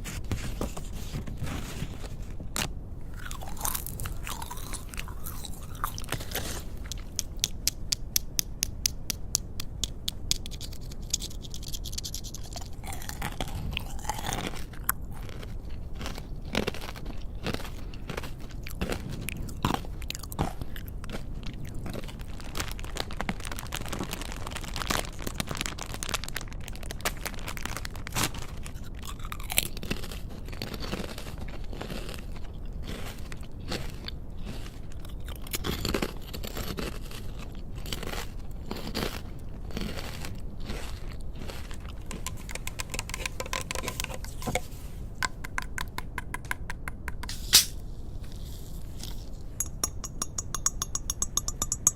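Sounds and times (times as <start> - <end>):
crunching snack chewing: 0.4 - 46.5.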